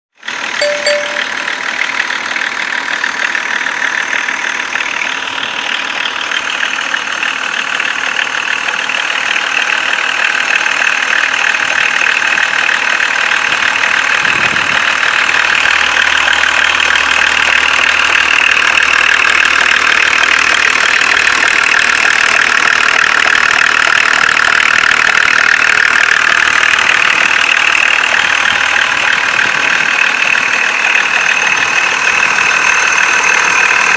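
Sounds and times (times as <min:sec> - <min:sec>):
diesel engine running: 0:00.2 - 0:33.9
rapid even engine knock: 0:01.5 - 0:33.9.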